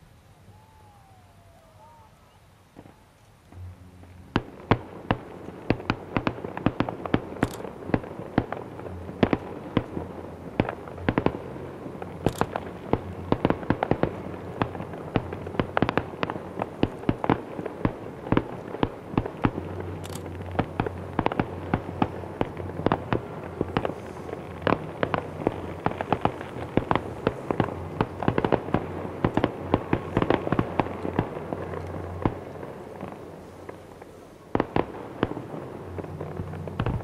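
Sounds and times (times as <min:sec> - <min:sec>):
fireworks bangs and crackling: 0:02.7 - 0:37.0.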